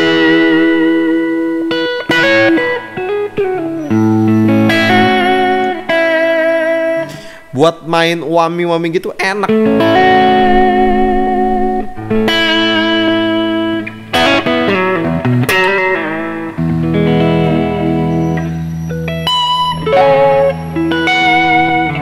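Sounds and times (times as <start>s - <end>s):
electric guitar chords and notes: 0.0s - 7.9s, 8.6s - 22.0s.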